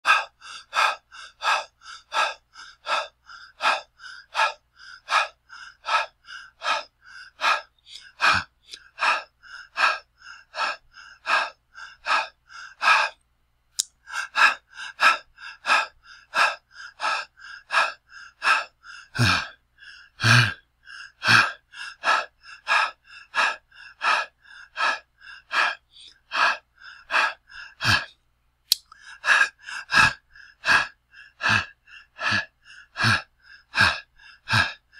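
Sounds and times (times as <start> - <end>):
person breathing heavily: 0.0 - 13.2, 13.8 - 28.2, 28.9 - 34.9.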